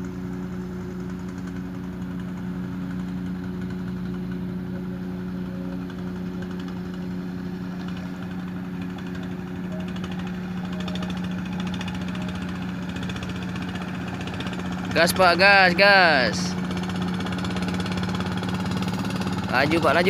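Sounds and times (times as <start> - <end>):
boat engine running steadily: 0.0 - 20.0.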